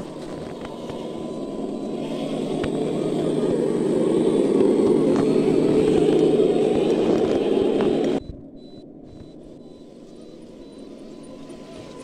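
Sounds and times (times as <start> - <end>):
rc trucks motors whirring: 0.0 - 8.3, 9.2 - 12.0.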